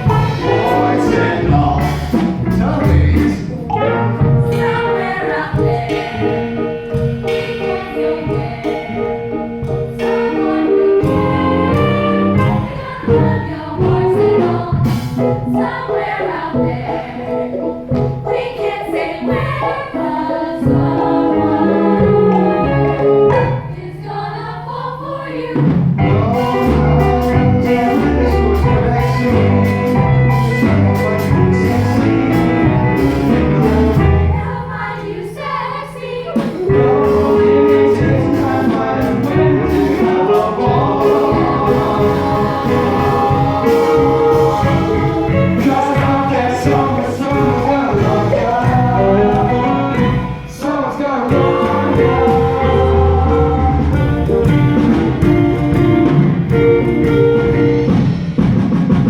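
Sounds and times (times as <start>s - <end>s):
chorus singing: 0.0s - 59.0s
instrumental accompaniment: 0.0s - 59.0s.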